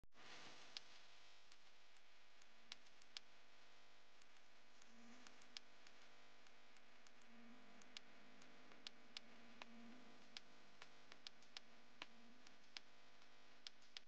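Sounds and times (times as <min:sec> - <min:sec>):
faint steady hiss: 0:00.2 - 0:14.0
faint clicks: 0:00.7 - 0:14.0.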